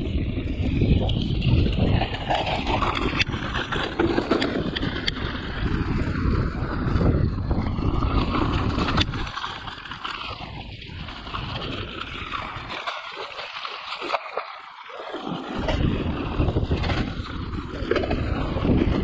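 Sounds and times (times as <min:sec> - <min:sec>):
wind buffeting microphone: 0:00.0 - 0:14.1, 0:14.8 - 0:19.0
mountain bike rattle and tyre noise: 0:00.0 - 0:19.0.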